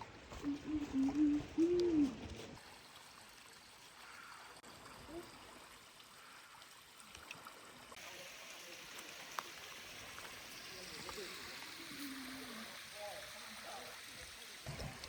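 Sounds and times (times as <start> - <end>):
creek water trickling: 0.0 - 15.0.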